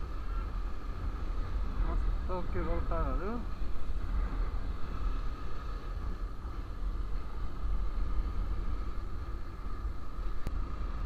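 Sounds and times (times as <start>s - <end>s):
motorcycle engine and road rumble: 0.0s - 11.0s.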